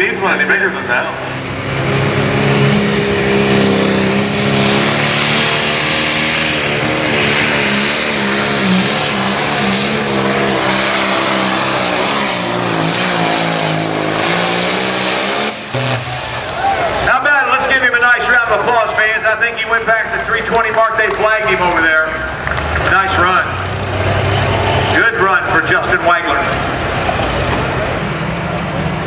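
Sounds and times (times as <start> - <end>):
diesel engine at full throttle: 0.0 - 29.0.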